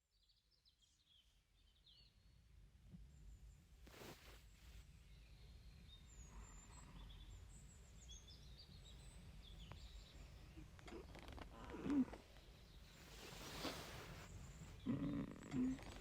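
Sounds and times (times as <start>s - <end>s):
faint birds chirping: 0.2s - 16.0s.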